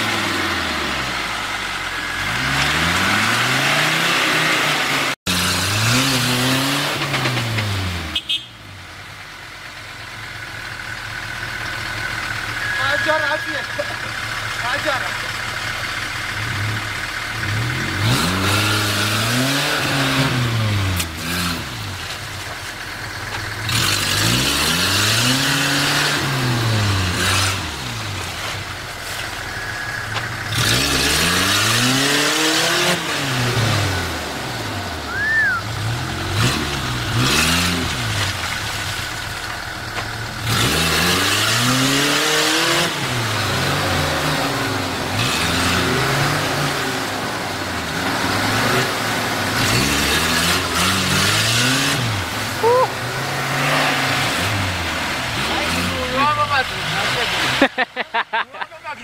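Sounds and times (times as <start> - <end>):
vehicle engine revving: 0.0 - 8.5, 10.4 - 59.0.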